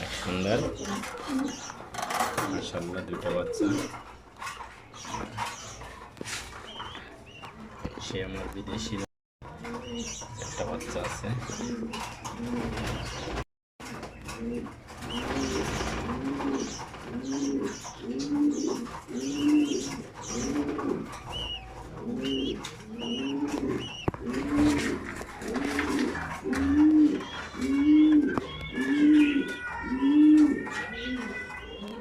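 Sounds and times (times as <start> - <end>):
pigeons cooing: 0.0 - 13.4, 14.1 - 32.0.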